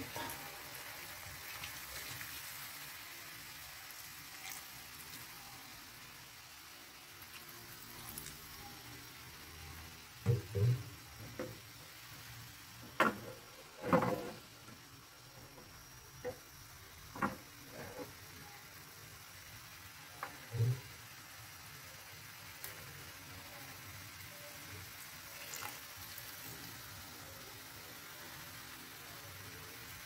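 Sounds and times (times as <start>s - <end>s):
faint steady sizzle: 0.0s - 30.0s.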